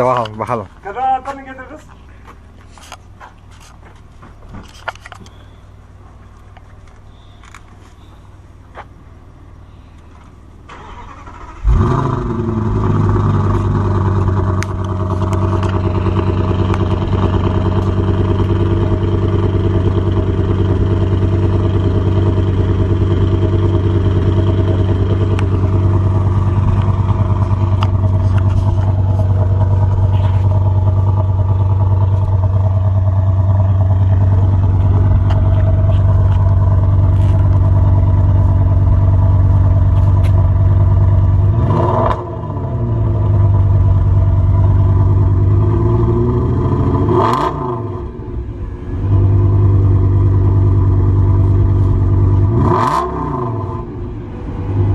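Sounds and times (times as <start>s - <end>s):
car engine starting and idling: 4.0s - 54.9s.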